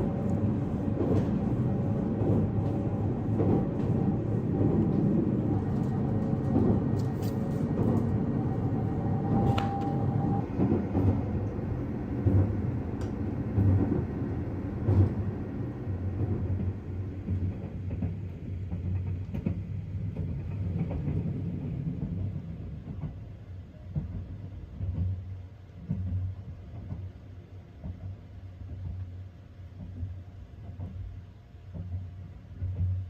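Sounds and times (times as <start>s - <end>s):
train running with low drone: 0.0s - 33.0s.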